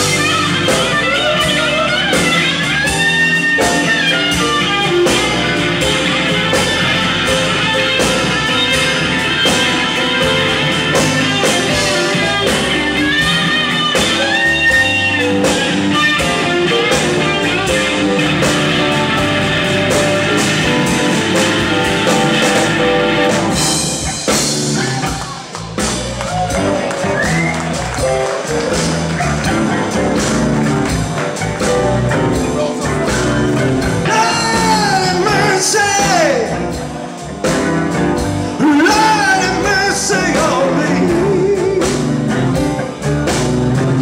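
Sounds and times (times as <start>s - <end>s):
blues-rock band playing: 0.0s - 44.0s.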